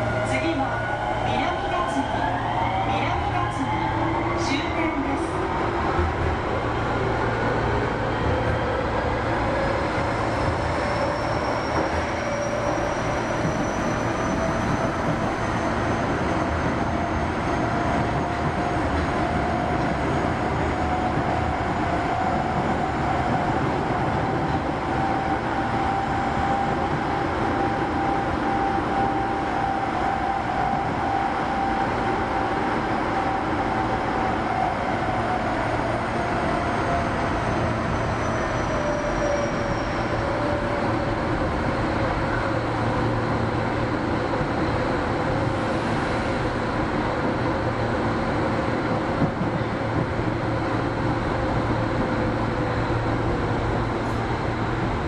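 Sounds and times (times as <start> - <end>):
subway train wheels rumbling: 0.0 - 55.0.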